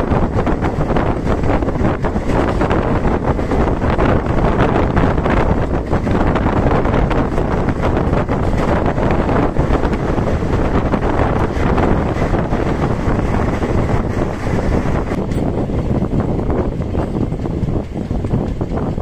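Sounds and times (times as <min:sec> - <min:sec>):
moving passenger train: 0:00.0 - 0:19.0
wind rushing on microphone: 0:00.0 - 0:19.0.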